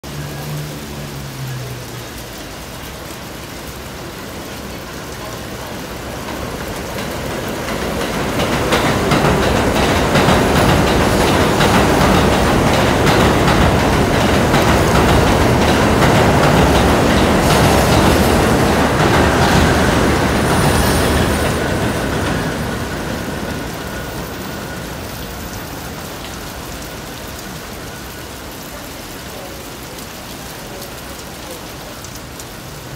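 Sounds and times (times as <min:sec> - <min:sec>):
steady rain hiss: 0:00.0 - 0:32.9
subway train wheels clattering: 0:02.3 - 0:32.7.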